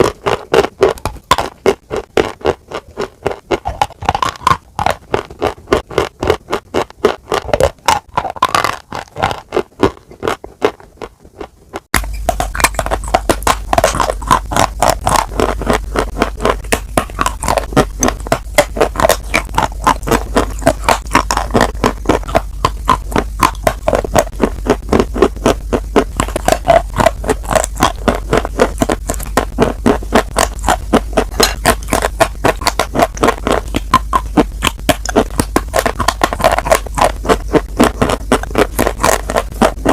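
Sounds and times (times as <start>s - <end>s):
crunchy chewing: 0.0s - 39.9s
steady low hum: 0.0s - 39.9s.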